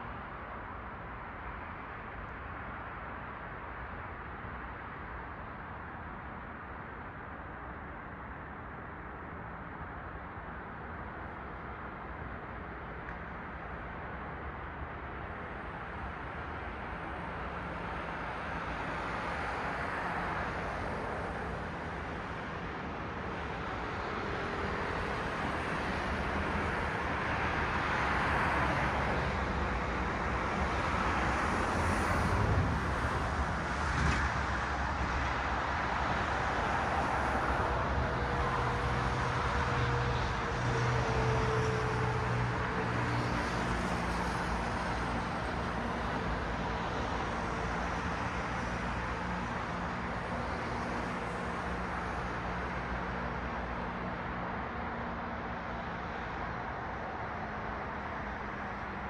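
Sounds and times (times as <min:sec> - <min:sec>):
cars passing on street: 0:11.4 - 0:59.0.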